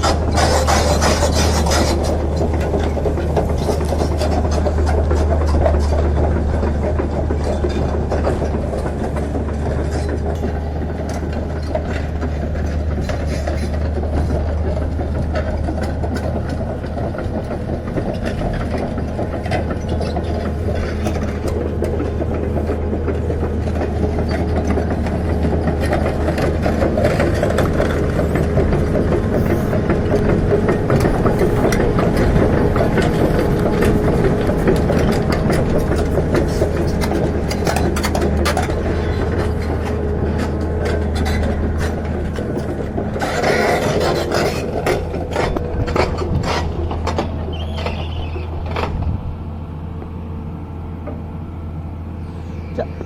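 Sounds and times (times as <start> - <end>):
machine clanks and rattles: 0.0 - 50.1
excavator diesel engine running: 0.0 - 53.0.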